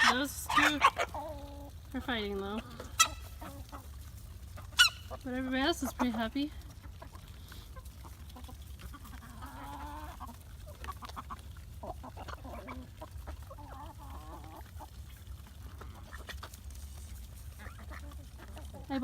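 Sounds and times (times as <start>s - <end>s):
chickens and ducks calling: 0.0s - 19.0s.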